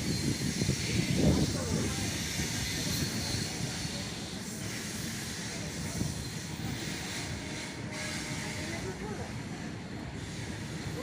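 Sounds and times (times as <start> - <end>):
train hiss: 0.0 - 11.0
train rumbling: 0.0 - 11.0.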